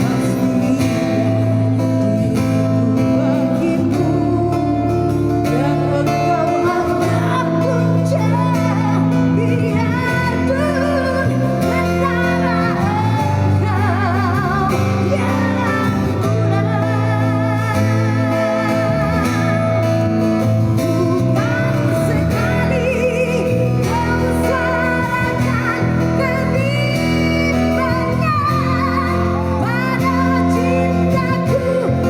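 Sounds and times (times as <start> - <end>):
low bass notes: 0.0 - 32.0
strummed acoustic guitar: 0.0 - 32.0
woman singing with vibrato: 0.0 - 32.0.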